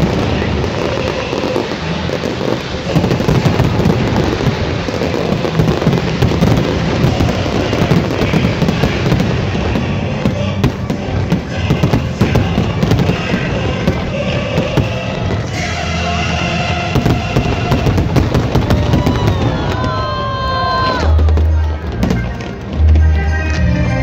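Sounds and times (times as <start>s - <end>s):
fireworks bangs: 0.0s - 24.0s
fireworks crackling: 0.0s - 24.0s
music: 0.0s - 24.0s.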